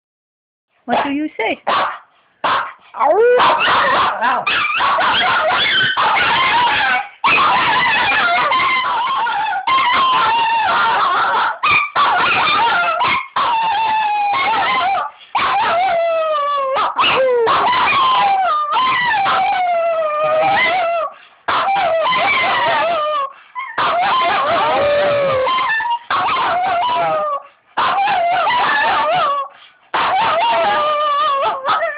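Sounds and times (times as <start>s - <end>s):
dogs howling: 3.0s - 31.9s.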